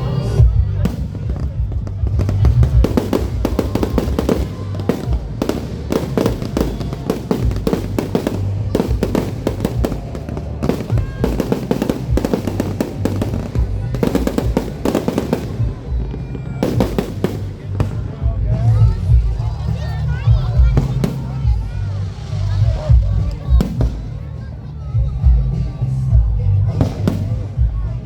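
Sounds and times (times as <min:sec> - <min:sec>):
fireworks crackling and popping: 0:00.0 - 0:28.0.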